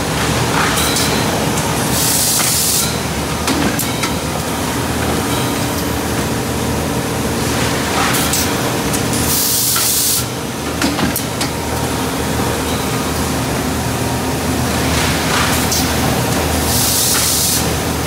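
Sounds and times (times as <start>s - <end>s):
industrial machinery humming: 0.0s - 18.0s.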